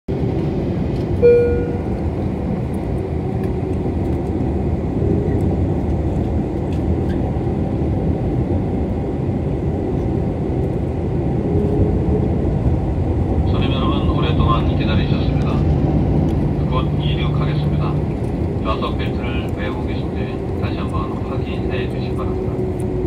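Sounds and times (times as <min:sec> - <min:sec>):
jet engines rumbling in cabin: 0:00.1 - 0:23.0.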